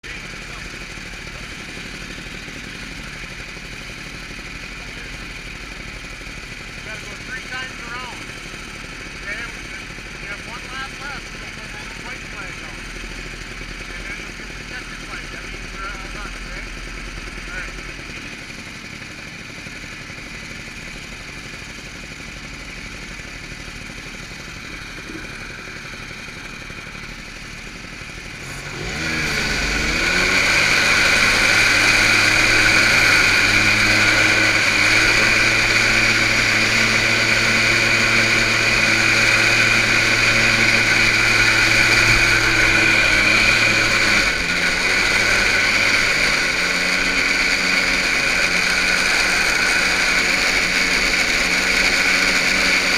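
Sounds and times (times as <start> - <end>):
small engines revving and droning: 0.0 - 52.9.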